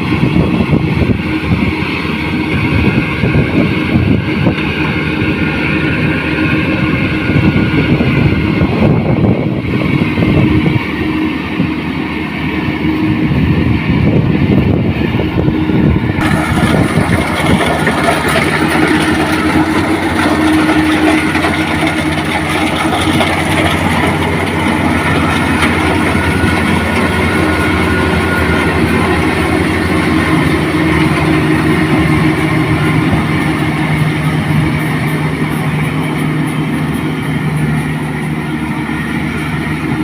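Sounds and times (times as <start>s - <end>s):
combine harvester engine hum: 0.0s - 40.0s
dense mechanical noise: 0.0s - 40.0s.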